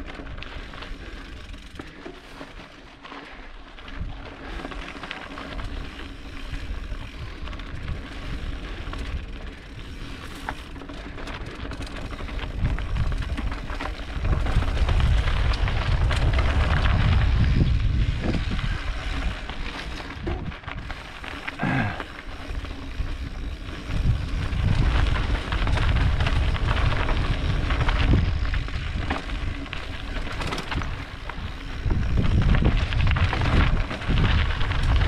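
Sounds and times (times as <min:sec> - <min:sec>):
bike rattling and clicking: 0:00.0 - 0:35.0
bike tyres crunching on rocks: 0:00.0 - 0:35.0
wind rumbling on microphone: 0:03.7 - 0:35.0.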